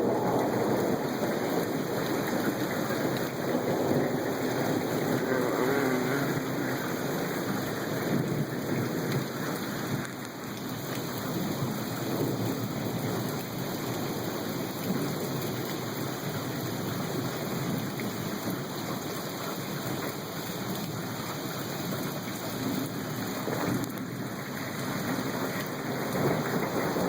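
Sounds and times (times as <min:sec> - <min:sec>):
low rumble of thunder: 0:00.0 - 0:18.7, 0:21.9 - 0:27.0
rain falling: 0:00.0 - 0:27.0.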